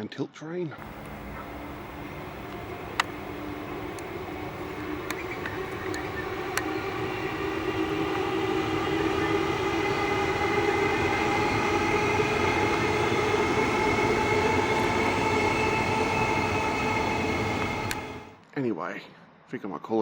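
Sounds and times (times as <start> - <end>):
train passing with steady hum: 0.8 - 19.5.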